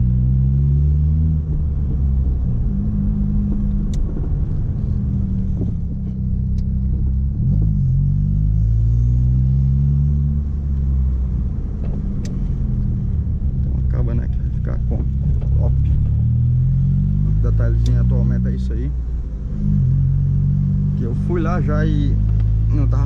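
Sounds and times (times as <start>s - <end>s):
car engine revving inside cabin: 0.0s - 23.0s.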